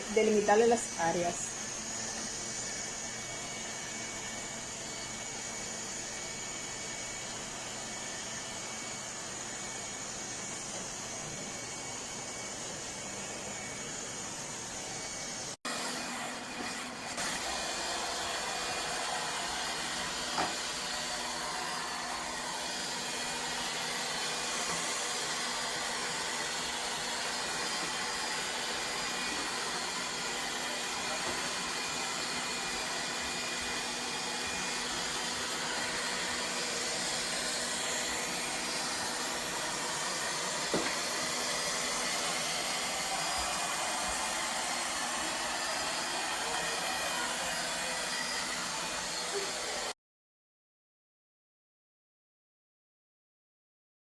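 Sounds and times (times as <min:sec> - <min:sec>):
robot vacuum whirring: 0:00.0 - 0:49.9.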